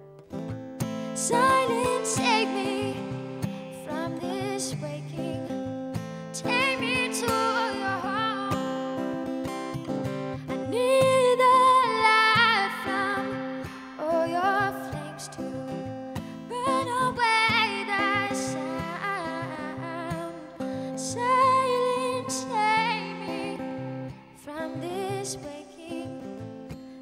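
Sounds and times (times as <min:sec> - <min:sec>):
acoustic guitar chords: 0:00.0 - 0:27.0
woman singing: 0:01.0 - 0:27.0.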